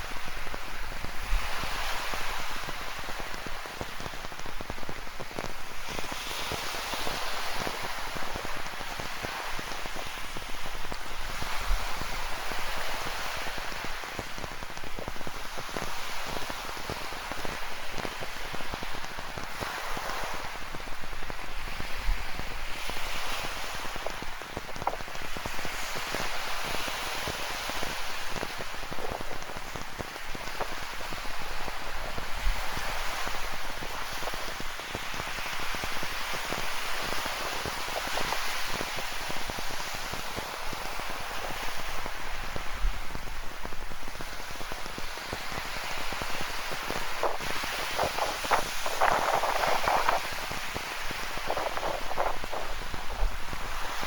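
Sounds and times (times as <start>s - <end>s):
ocean surf: 0.0s - 54.0s.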